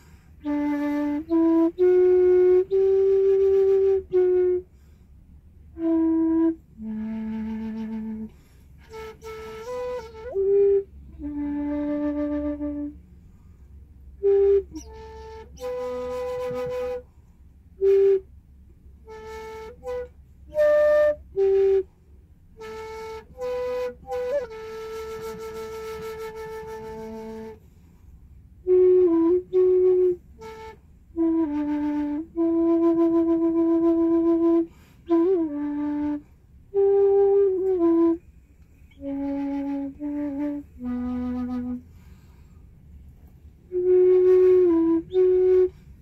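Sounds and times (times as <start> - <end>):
wooden flute playing slow melody: 0.0 - 46.0.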